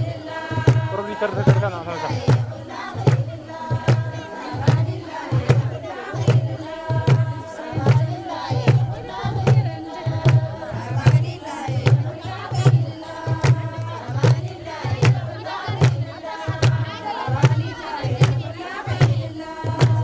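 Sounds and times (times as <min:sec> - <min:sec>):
hand drum beating: 0:00.0 - 0:20.0
women chanting together: 0:00.0 - 0:20.0.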